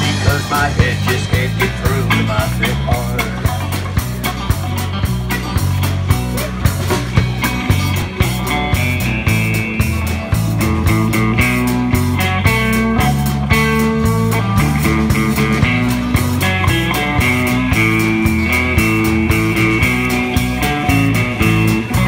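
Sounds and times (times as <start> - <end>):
bass guitar: 0.0 - 22.0
drum kit beat: 0.0 - 22.0
electric guitars: 0.0 - 22.0.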